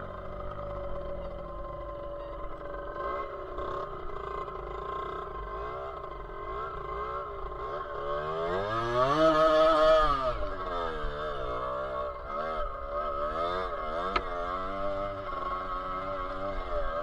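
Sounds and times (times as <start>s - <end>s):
dirt bike engine revving: 2.8s - 17.0s.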